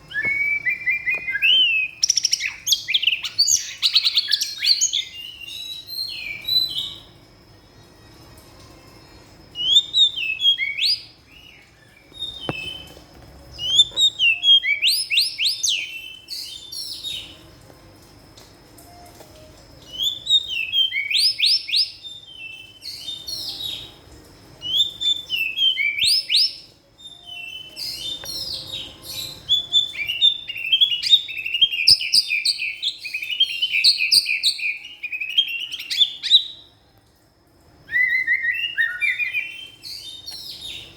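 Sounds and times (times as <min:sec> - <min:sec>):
bird singing whistles and trills: 0:00.0 - 0:07.2, 0:09.5 - 0:13.0, 0:13.6 - 0:17.4, 0:19.8 - 0:24.0, 0:24.6 - 0:36.7, 0:37.8 - 0:40.9.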